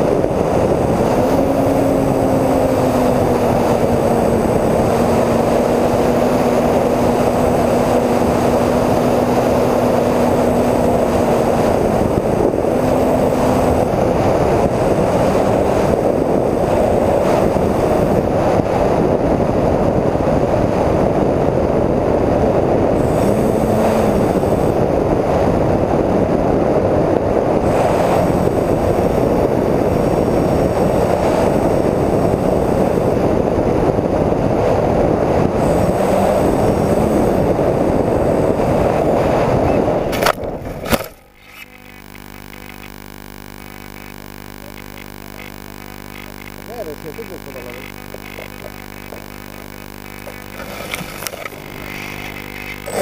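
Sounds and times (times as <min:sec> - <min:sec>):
wind and propeller noise: 0:00.0 - 0:53.0.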